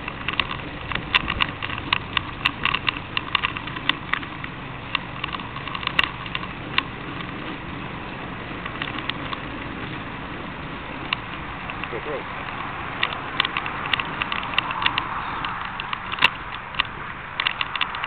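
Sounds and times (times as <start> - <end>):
sharp irregular clicks: 0.0 - 7.5, 8.6 - 9.8, 11.0 - 18.0
bicycle rattling on rough tarmac: 0.0 - 18.0
steady rushing noise: 0.0 - 18.0.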